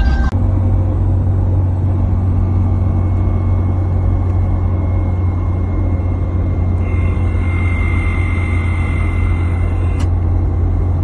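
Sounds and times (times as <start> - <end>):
low drivetrain and road drone: 0.0 - 11.0
thin steady whine: 0.0 - 11.0.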